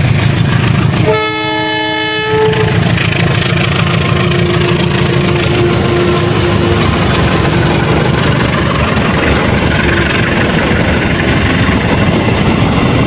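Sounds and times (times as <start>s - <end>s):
locomotive engine rumbling: 0.0s - 13.0s.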